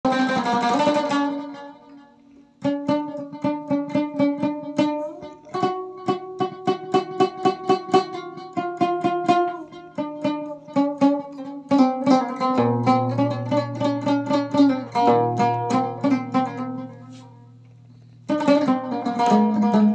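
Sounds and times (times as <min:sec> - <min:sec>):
plucked lute: 0:00.0 - 0:19.9.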